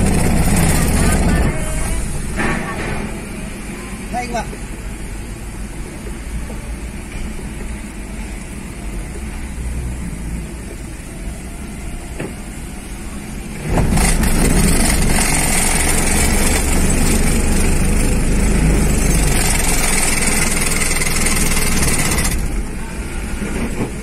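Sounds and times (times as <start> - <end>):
car engine starting and running: 0.0 - 24.0
hum of engines: 0.0 - 24.0.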